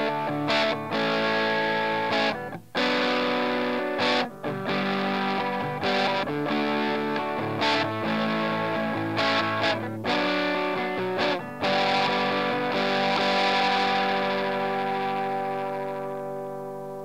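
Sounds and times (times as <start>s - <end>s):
overdriven electric guitar chords: 0.0s - 17.0s.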